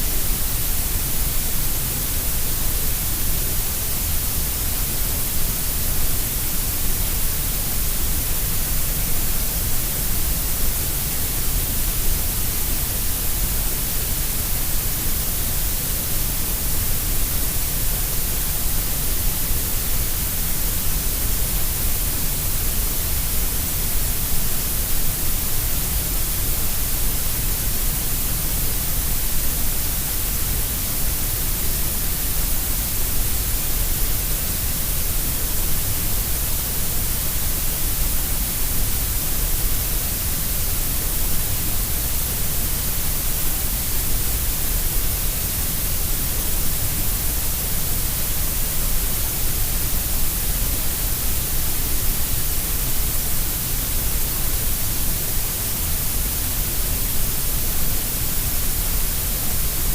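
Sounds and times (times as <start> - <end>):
grey noise hiss: 0.0 - 59.9.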